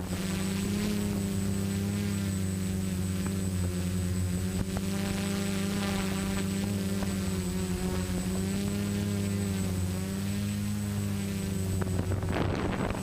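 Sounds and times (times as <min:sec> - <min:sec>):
drone motors and propellers droning: 0:00.0 - 0:13.0.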